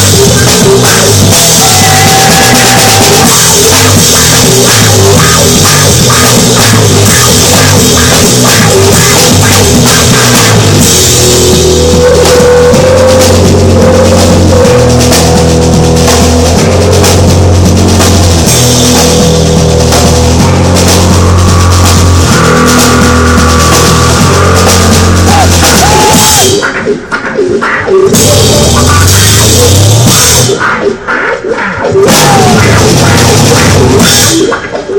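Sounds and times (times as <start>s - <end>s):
held bass notes: 0.0s - 26.6s, 28.1s - 30.6s, 32.0s - 34.4s
drum kit drumming: 0.0s - 34.9s
loud rock music: 0.0s - 34.9s.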